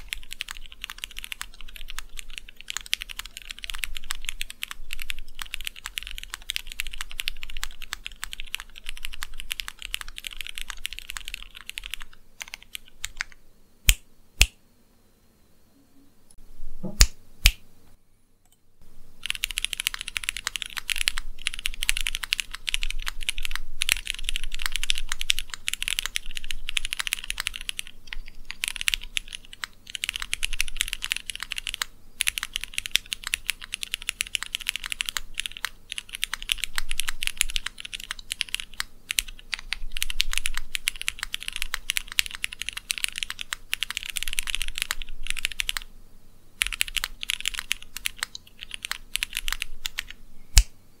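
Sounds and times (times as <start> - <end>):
keyboard typing: 0.0 - 14.5, 19.2 - 45.9, 46.6 - 50.7.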